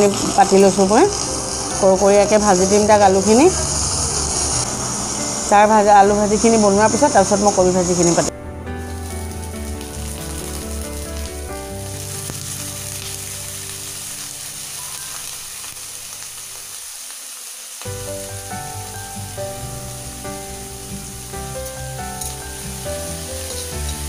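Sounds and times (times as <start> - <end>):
potatoes sizzling in hot oil: 0.0 - 24.0.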